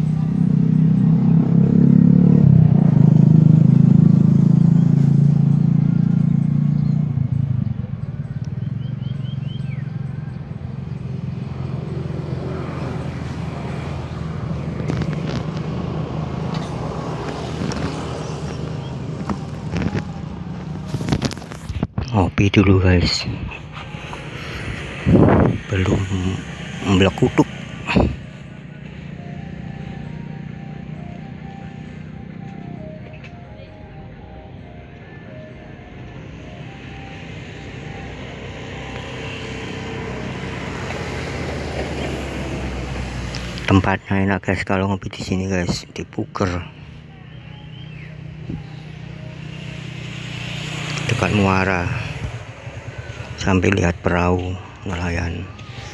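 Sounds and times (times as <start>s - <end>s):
engine humming steadily: 0.0s - 55.9s
outdoor background noise: 0.0s - 55.9s.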